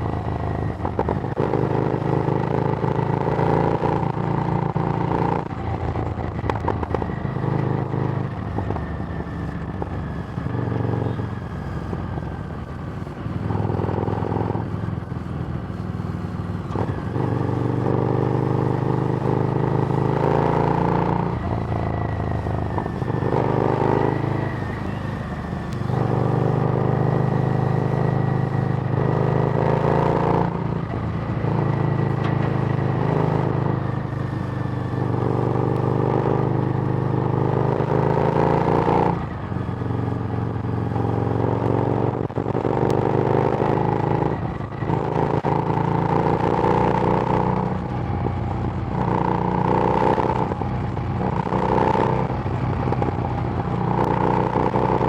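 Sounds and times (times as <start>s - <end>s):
motorcycle engine revving while riding: 0.0s - 55.0s.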